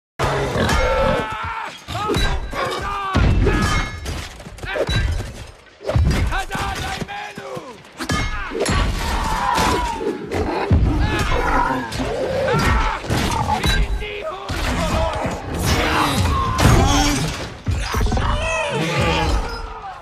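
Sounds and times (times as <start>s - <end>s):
fighters shouting and snarling: 0.2s - 3.9s, 6.2s - 20.0s.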